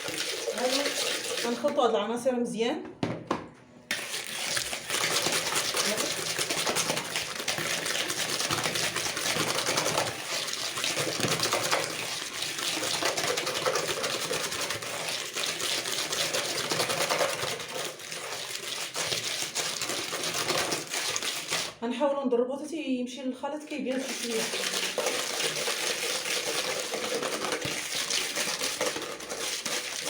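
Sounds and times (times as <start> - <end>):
whisk clicking in a bowl: 0.0 - 1.8, 3.9 - 21.8, 23.9 - 30.0.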